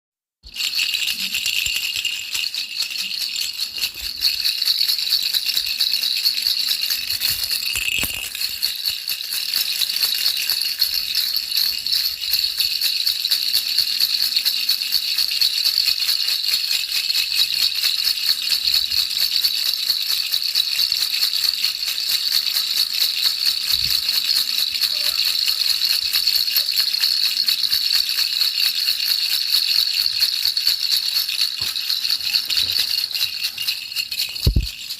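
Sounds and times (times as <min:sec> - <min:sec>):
baby rattle shaken: 0:00.4 - 0:34.9.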